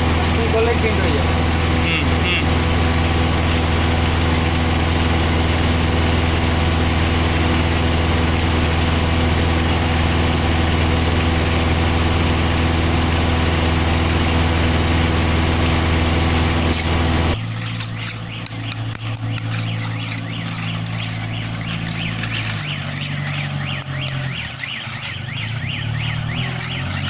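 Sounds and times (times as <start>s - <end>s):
concrete mixer engine droning: 0.0s - 27.0s.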